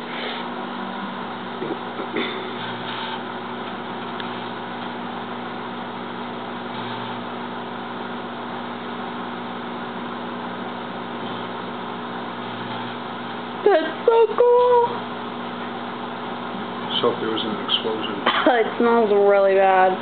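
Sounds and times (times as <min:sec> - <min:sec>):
microwave oven humming: 0:00.0 - 0:20.0.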